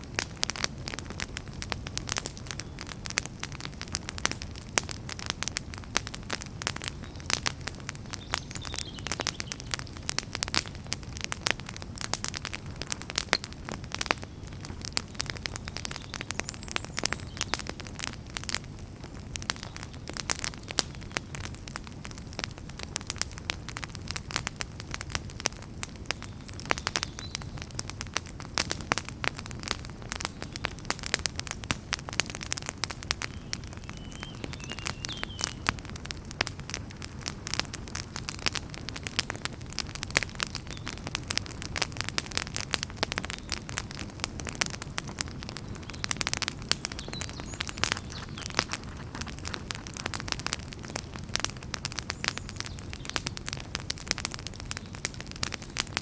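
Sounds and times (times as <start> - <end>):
low rumble of burning: 0.0 - 56.0
wood fire crackling: 0.0 - 56.0
sharp snaps and pops: 0.1 - 56.0.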